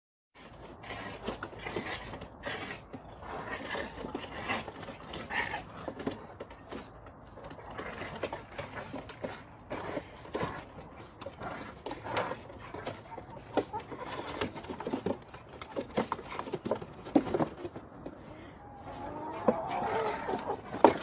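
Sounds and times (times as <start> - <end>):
puppies scuffling: 0.8 - 21.0.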